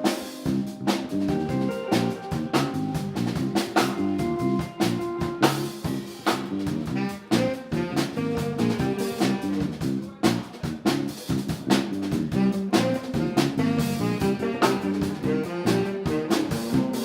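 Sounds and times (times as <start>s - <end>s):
drum kit beat: 0.0s - 17.0s
live jazz-funk band: 0.0s - 17.0s.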